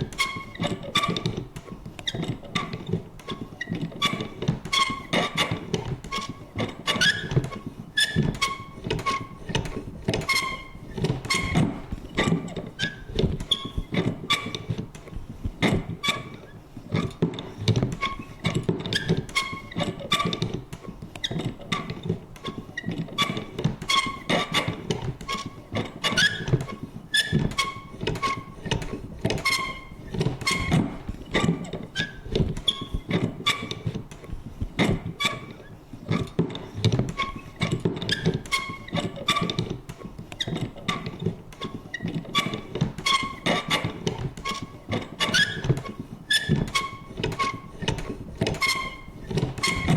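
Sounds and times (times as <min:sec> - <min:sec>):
punch creaking and squeaking: 0:00.0 - 0:49.9.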